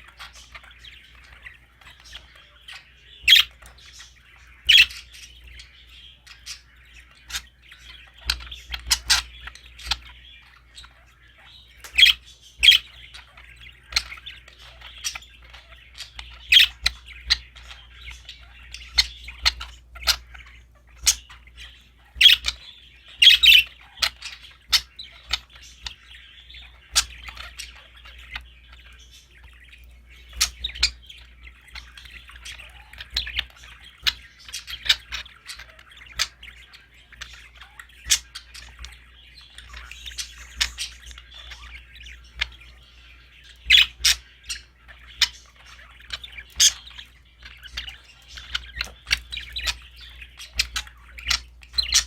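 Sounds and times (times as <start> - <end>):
budgerigars chattering: 0.0 - 52.0.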